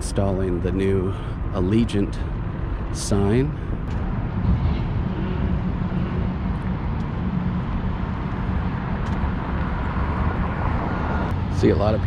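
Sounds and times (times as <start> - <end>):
street noise: 0.0 - 12.0
vehicle engines rumbling: 0.0 - 12.0.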